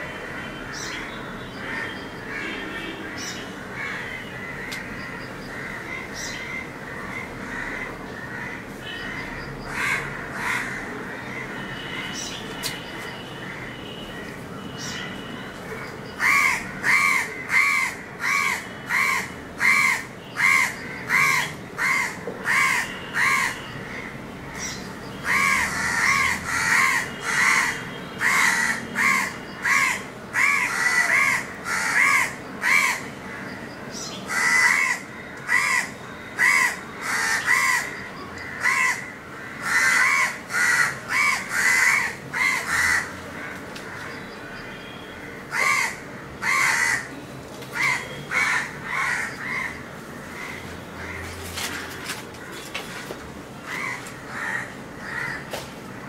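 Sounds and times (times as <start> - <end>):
harsh bird calls: 0.3 - 47.2, 47.8 - 52.7.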